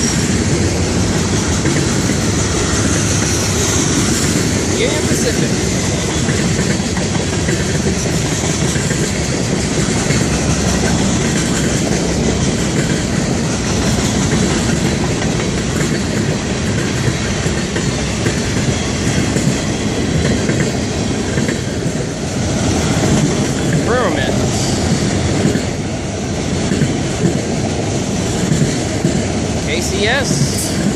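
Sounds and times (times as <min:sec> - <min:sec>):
freight train wheels clattering on rails: 0:00.0 - 0:30.9.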